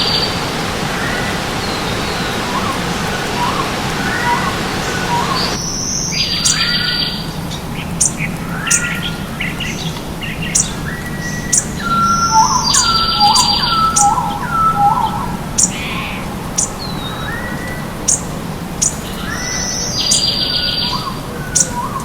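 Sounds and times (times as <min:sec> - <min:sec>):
songbirds singing: 0:00.0 - 0:22.0
stream running: 0:00.0 - 0:22.0.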